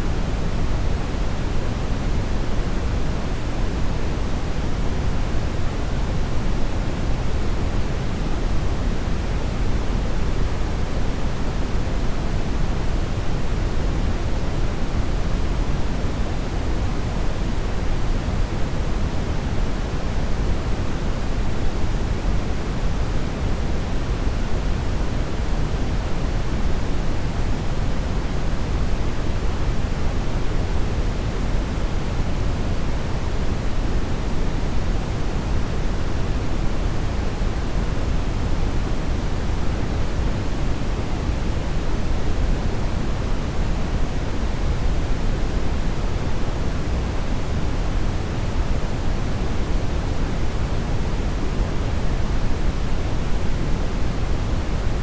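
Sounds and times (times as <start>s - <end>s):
deep brown noise hiss: 0.0s - 55.0s.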